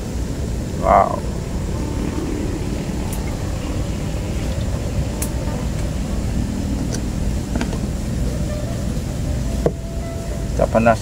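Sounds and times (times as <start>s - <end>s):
gas stove burner rumbling: 0.0s - 9.8s.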